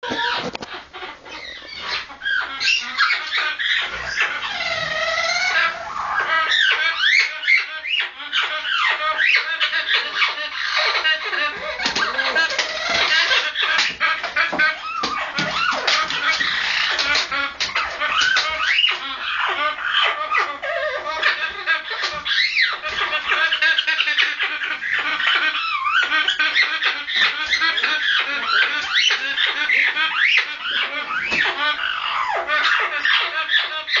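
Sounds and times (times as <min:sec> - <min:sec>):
parrot chattering squeaky calls: 0:00.0 - 0:34.0.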